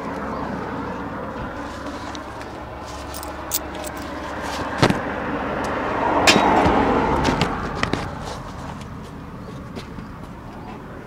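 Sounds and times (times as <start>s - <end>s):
car passing: 0.0s - 9.1s.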